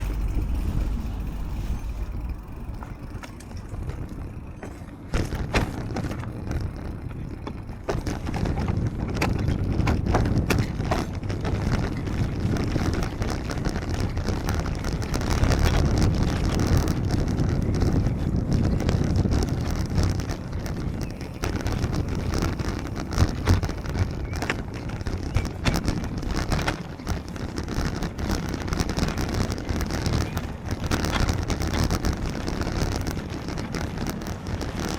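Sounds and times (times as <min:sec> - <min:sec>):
bicycle tyre and road noise: 0:00.0 - 0:34.9
wind rushing over microphone: 0:00.0 - 0:34.9.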